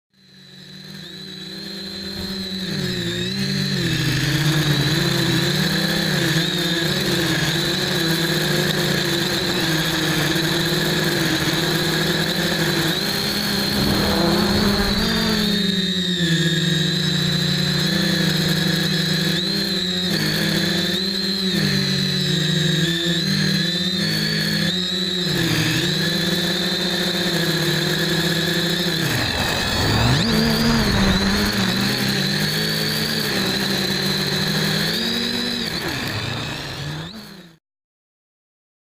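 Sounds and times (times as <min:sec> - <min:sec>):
drone propellers buzzing: 0:00.2 - 0:37.6.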